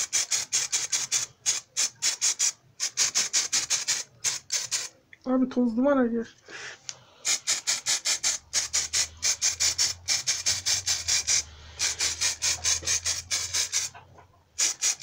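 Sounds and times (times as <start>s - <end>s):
aerosol can strokes: 0.0s - 4.9s, 7.2s - 14.0s, 14.6s - 15.0s.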